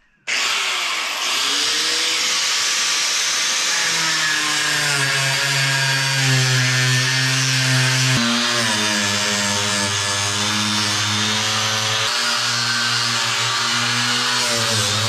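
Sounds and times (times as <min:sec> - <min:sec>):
die grinder grinding fiberglass: 0:00.3 - 0:15.0.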